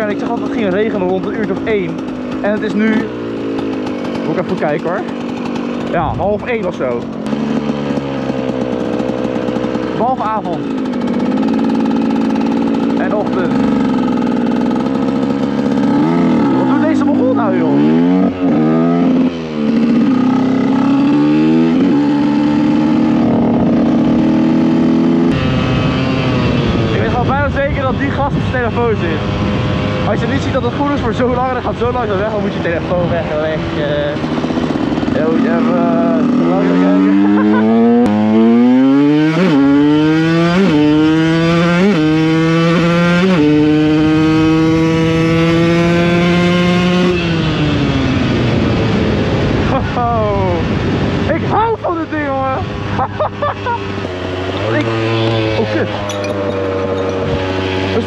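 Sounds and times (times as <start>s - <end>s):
two-stroke motorcycle engine: 0.0s - 58.0s.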